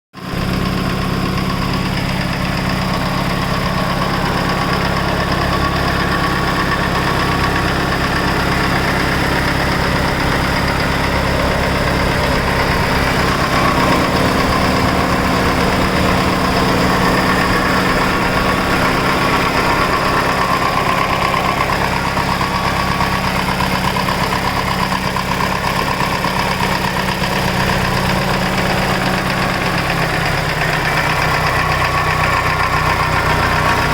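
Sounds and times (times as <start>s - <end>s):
car engine idling: 0.2s - 33.9s
fast valvetrain ticking: 0.3s - 33.9s.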